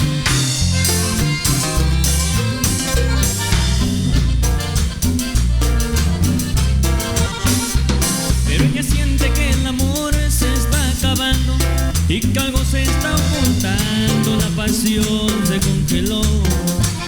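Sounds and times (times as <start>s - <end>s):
latin band instrumental: 0.0s - 17.0s.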